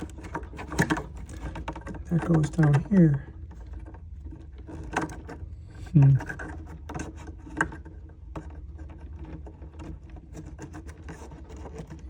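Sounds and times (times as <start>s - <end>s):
connectors rubbing and clicking: 0.0s - 12.0s
low steady hum: 0.0s - 12.0s.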